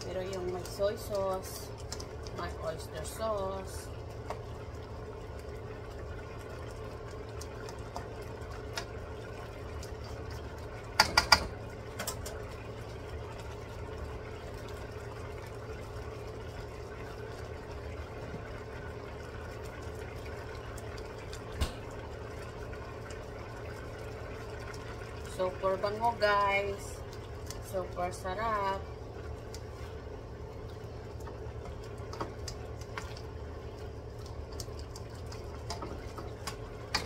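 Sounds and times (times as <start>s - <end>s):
broth simmering in a wok: 0.0s - 37.0s.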